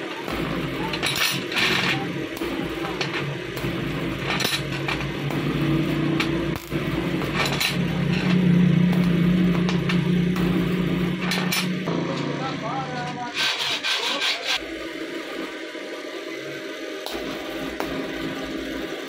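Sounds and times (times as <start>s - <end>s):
welding crackles: 0.0s - 15.4s
welder humming: 0.0s - 19.0s.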